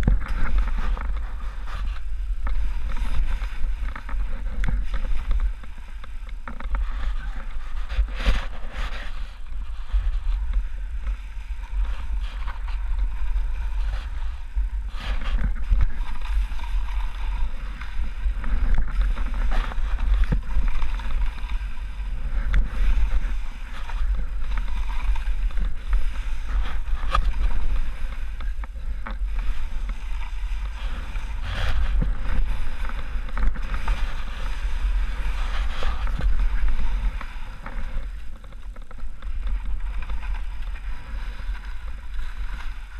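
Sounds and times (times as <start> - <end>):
ski edges scraping: 0.0 - 42.9
skis swishing on snow: 0.0 - 42.9
wind rumble on microphone: 0.0 - 42.9.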